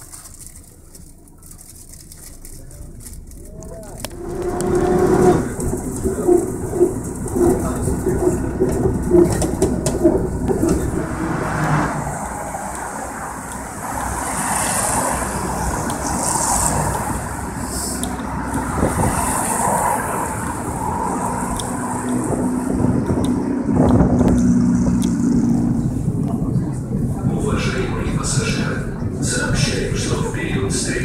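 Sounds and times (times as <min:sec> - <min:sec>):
road traffic rumble: 0:00.0 - 0:31.0
cars hissing by: 0:03.8 - 0:31.0.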